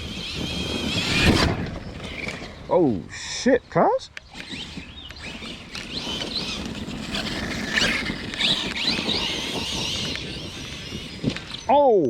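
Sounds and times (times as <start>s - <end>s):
electric motor whining: 0.0s - 2.7s, 4.2s - 11.7s.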